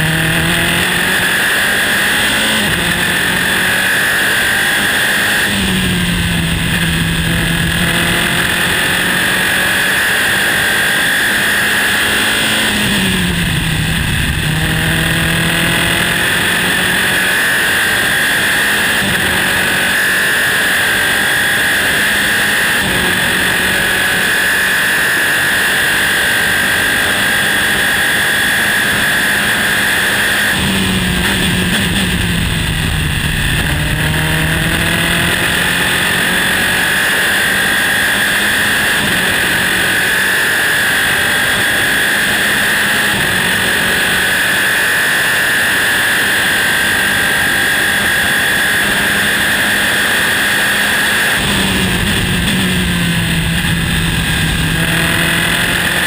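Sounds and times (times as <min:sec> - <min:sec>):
racing car engine at full throttle: 0:00.0 - 0:56.0
wind and road rush: 0:00.0 - 0:56.0.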